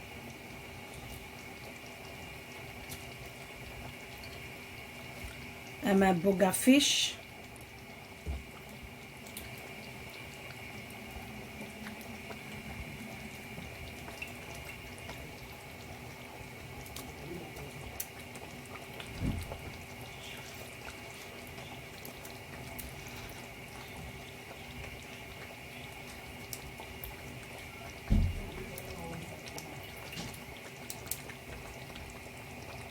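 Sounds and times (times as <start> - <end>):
soup bubbling in a pot: 0.0 - 32.9
kitchen hum: 0.1 - 32.9.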